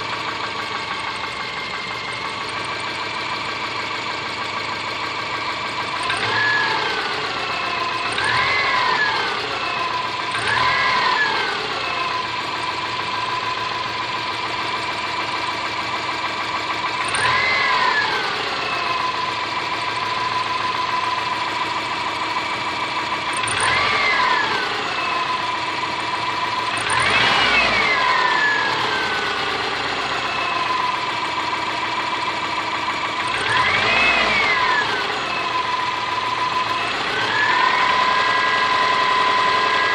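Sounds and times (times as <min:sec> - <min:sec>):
car engine idling and revving: 0:00.0 - 0:39.9
engine knocking: 0:00.0 - 0:39.9.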